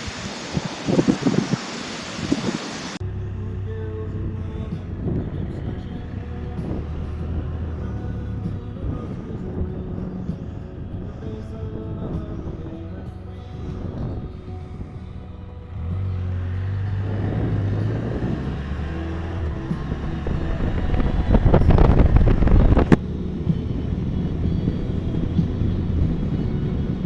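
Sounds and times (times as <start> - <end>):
motor vehicle engine humming: 0.0 - 27.0.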